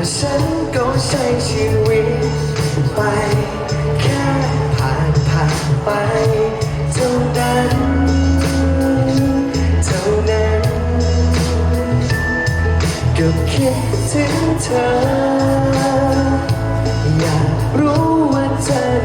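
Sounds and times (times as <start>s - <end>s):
live band playing pop ballad: 0.0s - 19.0s
steady drum beat: 0.0s - 19.0s.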